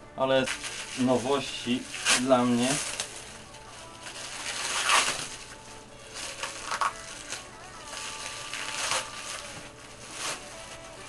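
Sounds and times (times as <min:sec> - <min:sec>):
plastic wrapping crinkling and tearing: 0:00.4 - 0:11.0.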